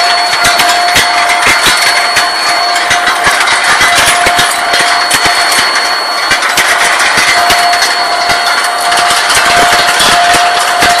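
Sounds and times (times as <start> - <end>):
metallic clatter of steel balls: 0.0 - 11.0
steady machine whine: 0.0 - 11.0.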